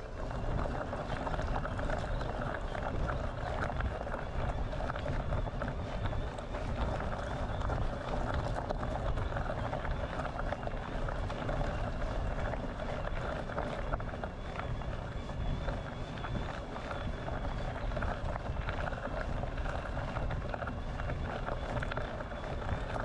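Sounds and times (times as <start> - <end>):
tyres crackling on rough track: 0.0 - 23.0
wind buffeting microphone: 0.0 - 23.0.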